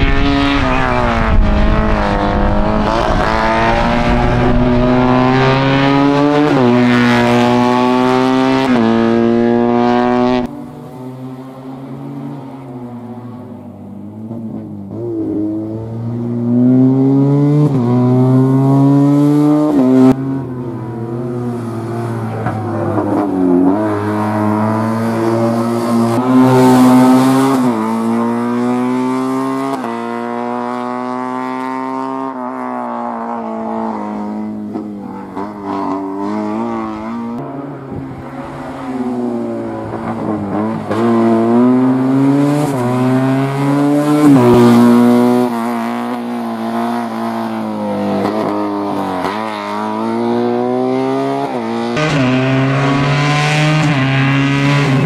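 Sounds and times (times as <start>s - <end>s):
racing car engine revving: 0.0s - 10.5s, 21.2s - 55.0s.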